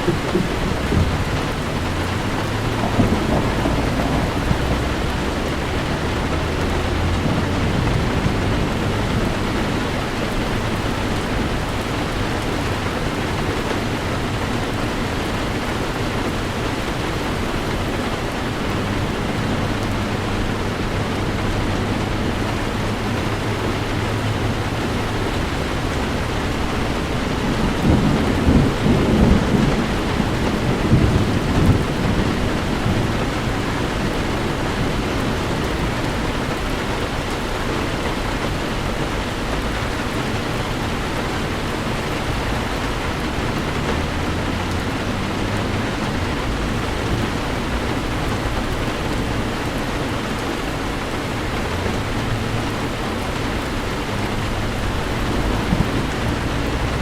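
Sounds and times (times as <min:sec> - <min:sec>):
low rumble of thunder: 0:00.0 - 0:50.5, 0:51.4 - 0:57.0
heavy rain on car: 0:00.0 - 0:57.0.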